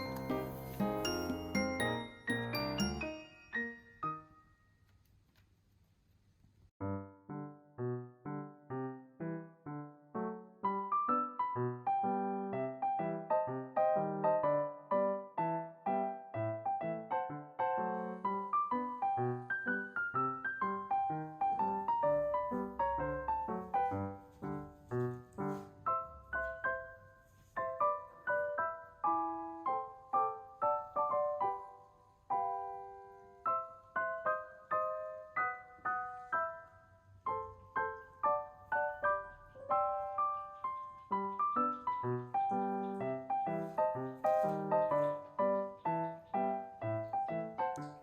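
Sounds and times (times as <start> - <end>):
gentle piano music: 0.0 - 5.0, 6.8 - 48.0.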